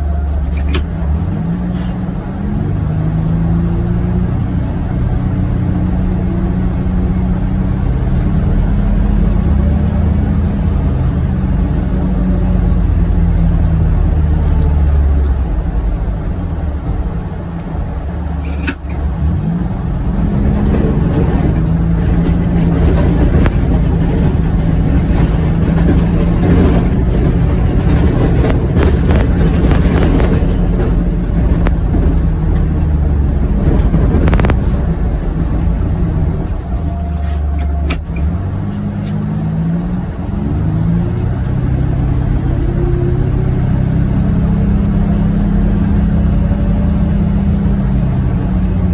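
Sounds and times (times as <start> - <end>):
utility vehicle engine running: 0.0 - 48.9.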